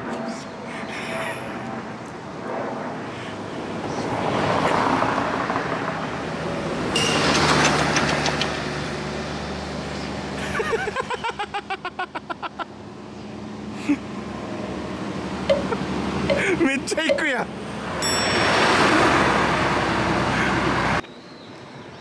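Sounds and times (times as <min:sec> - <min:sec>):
heavy vehicle engine hum: 0:00.0 - 0:21.0
vehicles passing: 0:00.0 - 0:22.0.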